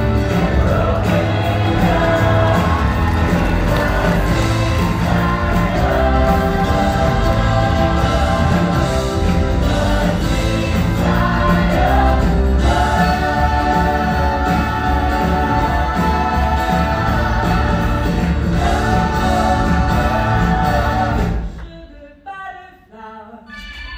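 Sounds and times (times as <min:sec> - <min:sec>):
pit band playing: 0:00.0 - 0:21.7
cast singing together: 0:00.0 - 0:23.9.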